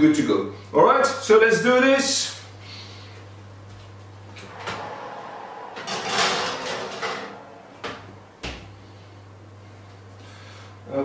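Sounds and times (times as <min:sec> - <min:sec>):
steady low oven hum: 0:00.0 - 0:11.0.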